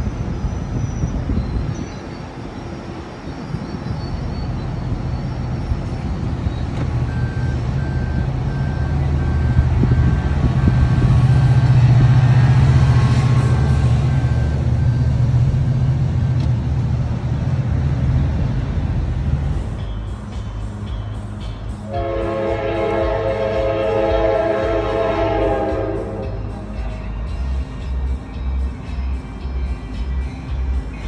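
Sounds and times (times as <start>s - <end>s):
diesel locomotive engine drone: 0.0s - 31.0s.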